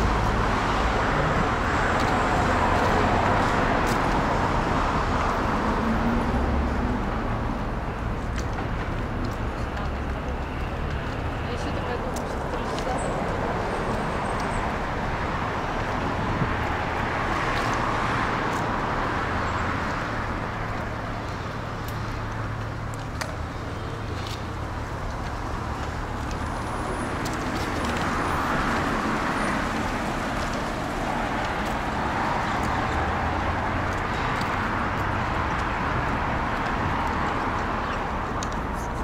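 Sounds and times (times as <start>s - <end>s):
city road traffic: 0.0s - 39.0s.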